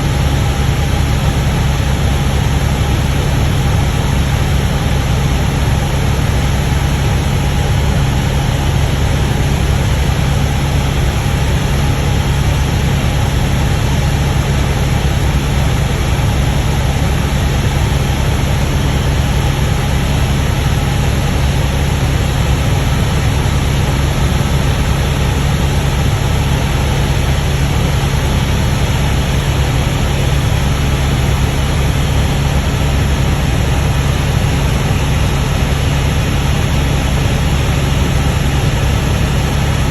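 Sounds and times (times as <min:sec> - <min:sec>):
broad rushing noise: 0:00.0 - 0:39.9
helicopter engine and rotor drone: 0:00.0 - 0:39.9.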